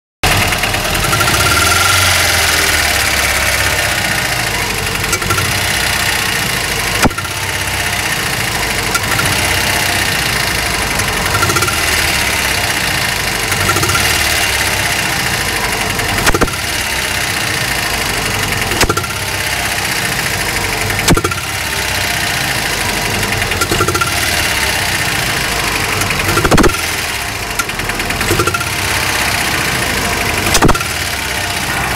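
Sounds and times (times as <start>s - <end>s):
engine running with knocking: 0.2s - 31.9s.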